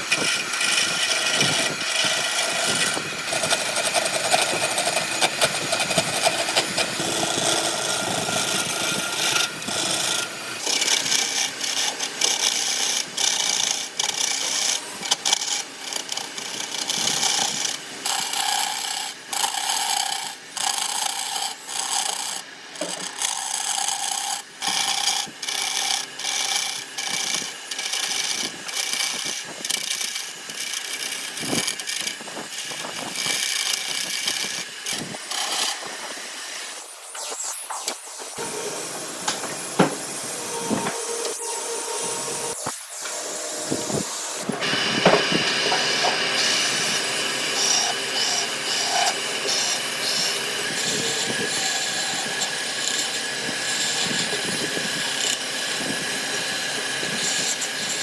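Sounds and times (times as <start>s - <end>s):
lathe tool rasping against wood: 0.0s - 58.0s.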